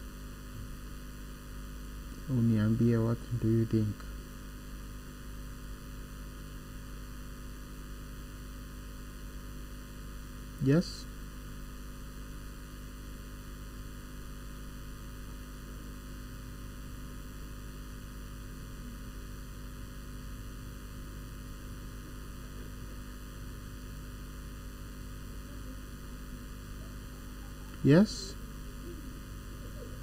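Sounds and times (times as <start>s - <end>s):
electrical mains hum: 0.0s - 30.0s
line noise hiss: 0.0s - 30.0s.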